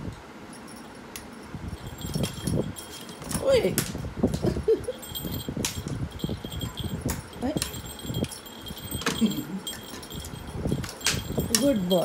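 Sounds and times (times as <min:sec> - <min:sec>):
small jingle bell tinkling: 0:00.5 - 0:03.8, 0:04.4 - 0:12.0.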